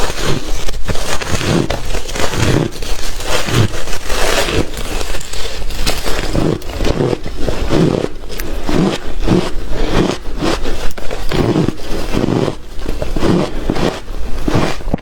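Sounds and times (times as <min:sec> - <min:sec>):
ice crunching being chewed: 0:00.0 - 0:15.0.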